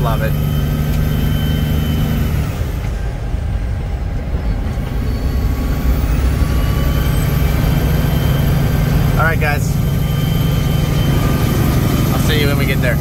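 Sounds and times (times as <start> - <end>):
truck diesel engine running: 0.0 - 13.0
turbo whistle: 0.1 - 2.6, 4.8 - 13.0.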